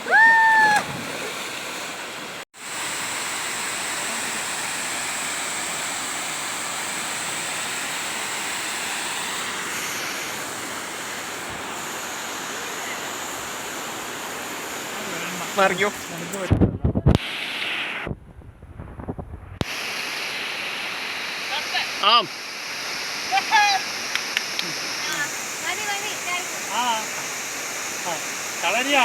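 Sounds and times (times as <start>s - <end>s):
waterfall rushing: 0.0s - 16.4s, 19.7s - 29.0s.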